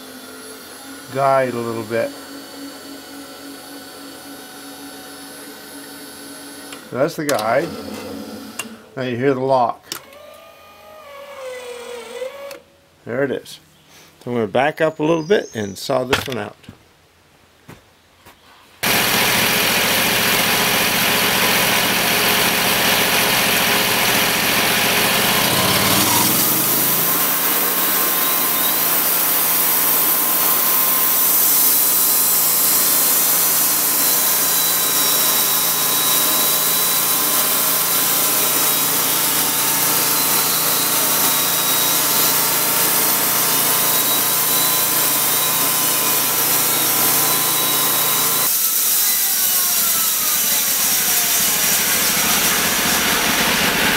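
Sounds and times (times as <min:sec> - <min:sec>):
bandsaw sawmill engine running: 0:00.0 - 0:12.6, 0:18.8 - 0:53.9.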